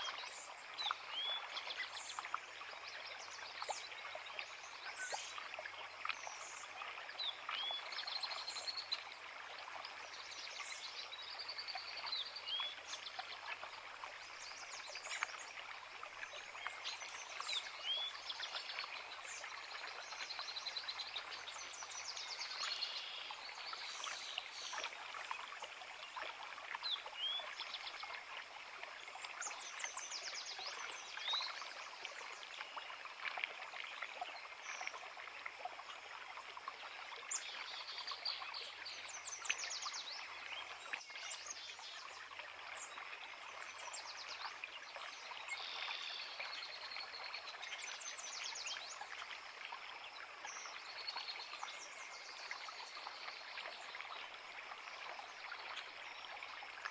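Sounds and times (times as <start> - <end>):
creek running over rocks: 0.0 - 56.9.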